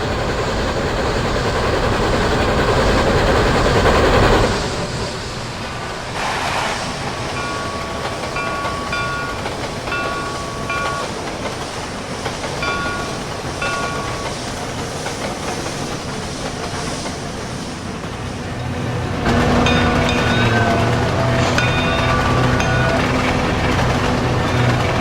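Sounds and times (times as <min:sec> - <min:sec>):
train rolling: 0:00.0 - 0:25.0.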